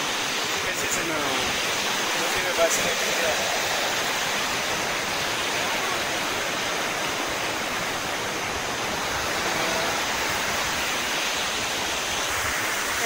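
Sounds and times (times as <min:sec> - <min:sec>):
rapids pouring over rocks: 0:00.0 - 0:13.0
waterfall roaring: 0:00.0 - 0:13.0.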